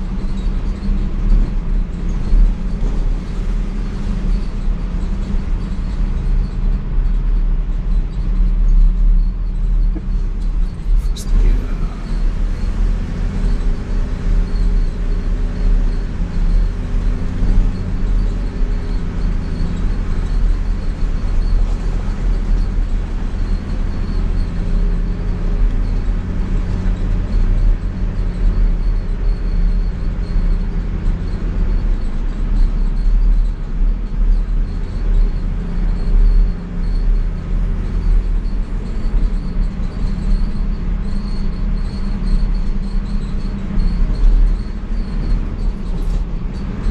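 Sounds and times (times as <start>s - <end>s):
diesel engine pulling under load: 0.0s - 46.9s.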